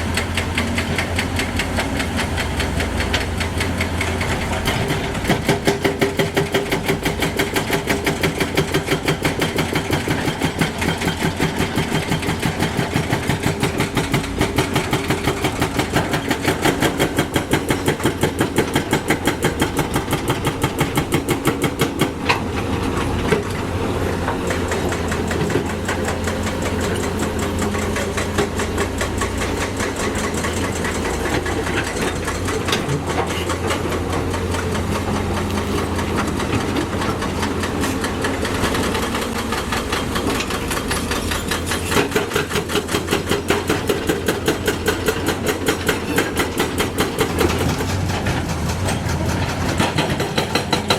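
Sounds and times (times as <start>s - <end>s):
diesel engine pulsing: 0.0s - 50.9s.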